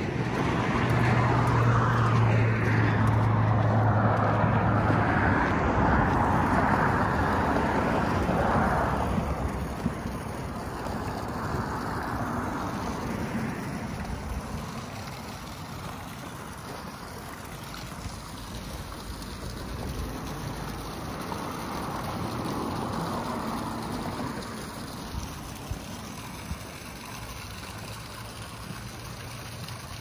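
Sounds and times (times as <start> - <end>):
low engine hum: 0.0 - 30.0
road traffic passing: 0.0 - 30.0.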